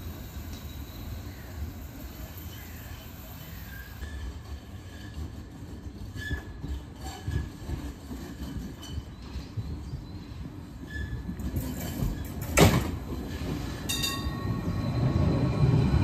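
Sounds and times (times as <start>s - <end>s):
tram rumbling on rails: 0.0s - 16.0s
wheel squeals: 0.2s - 16.0s.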